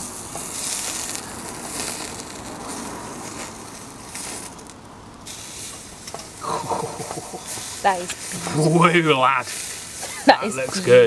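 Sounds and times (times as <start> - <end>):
fat hissing in flames: 0.0 - 11.0
fire crackling: 0.0 - 11.0
steak sizzling on a grate: 0.0 - 11.0.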